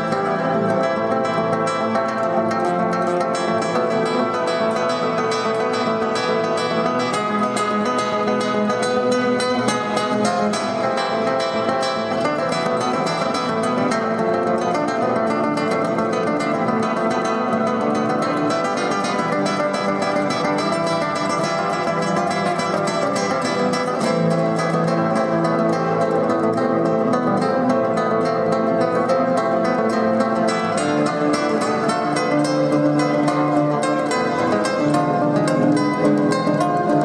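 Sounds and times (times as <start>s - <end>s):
classical guitar fingerstyle: 0.0s - 37.0s.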